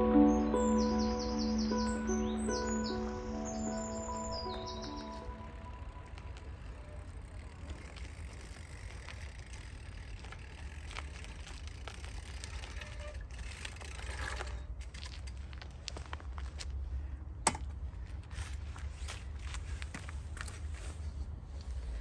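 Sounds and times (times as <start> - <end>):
bicycle tyres crunching on gravel: 2.8 - 22.0.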